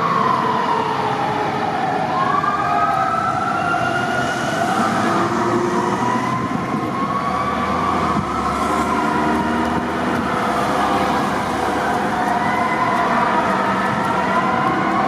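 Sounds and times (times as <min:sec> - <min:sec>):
fire truck siren wailing: 0:00.0 - 0:15.0
road traffic rumble: 0:00.0 - 0:15.0.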